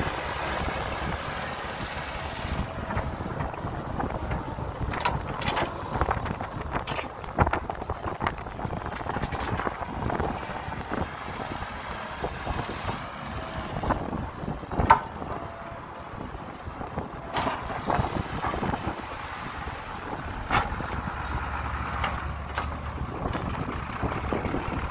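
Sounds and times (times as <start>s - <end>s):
excavator diesel engine: 0.0s - 24.9s.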